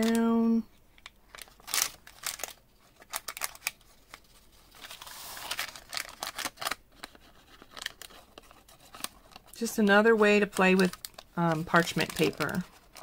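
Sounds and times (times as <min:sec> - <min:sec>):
paper rustling and crackling: 0:01.0 - 0:13.0.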